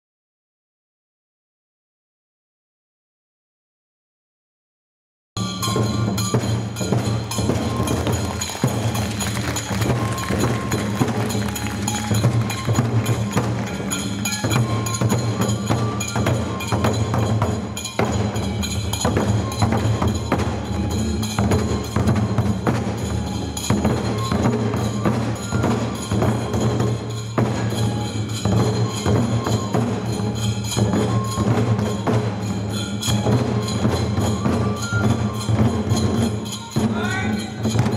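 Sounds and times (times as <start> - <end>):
drums: 5.4 - 37.9
fast clacking percussion: 5.4 - 37.9
folk dance music: 5.4 - 37.9.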